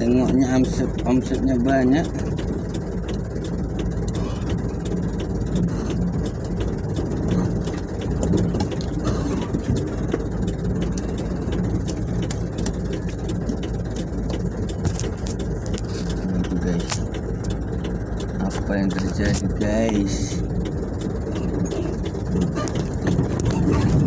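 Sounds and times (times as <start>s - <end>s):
light clicks and rattles: 0.0s - 24.0s
truck engine running: 0.0s - 24.0s.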